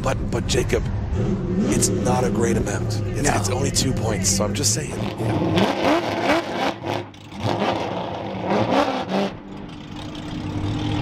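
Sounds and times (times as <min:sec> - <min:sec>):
car engine revving: 0:00.2 - 0:11.0.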